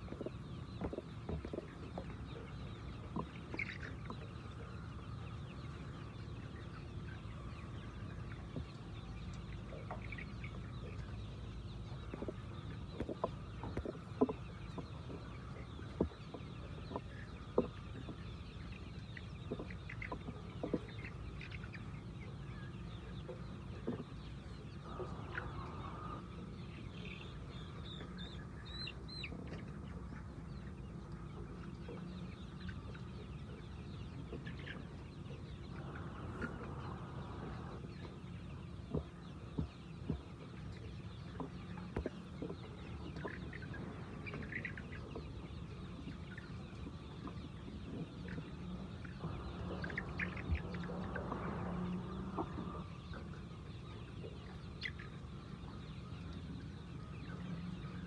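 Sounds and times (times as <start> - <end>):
chickens clucking: 0.0 - 58.0
steady low hum: 0.0 - 58.0.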